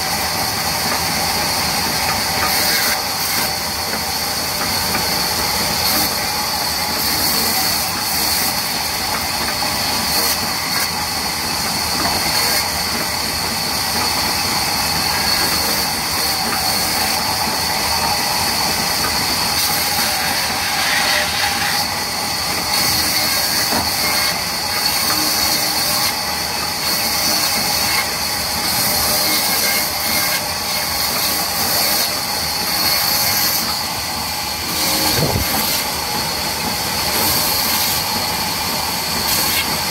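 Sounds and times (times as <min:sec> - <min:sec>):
band saw machine whirring: 0:00.0 - 0:39.9
saw blade hissing through wood: 0:00.0 - 0:39.9.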